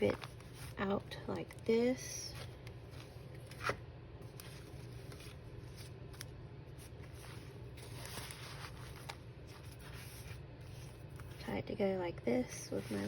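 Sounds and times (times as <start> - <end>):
paper and fabric rustling: 0.0 - 11.6, 12.4 - 13.0
low steady hum: 0.0 - 13.0.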